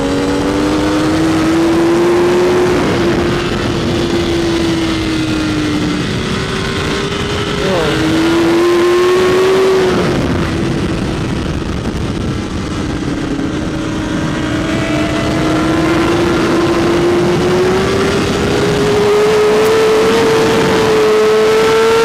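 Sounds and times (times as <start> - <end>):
motorcycle engine at speed: 0.0 - 22.0
wind noise: 0.0 - 22.0.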